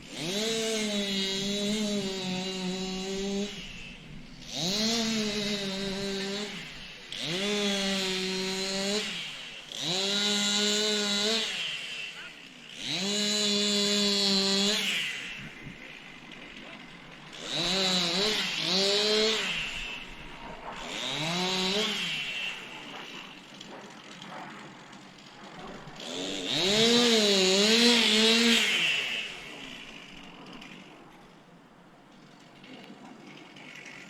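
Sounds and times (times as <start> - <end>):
chainsaw engine revving and idling: 0.0 - 34.0.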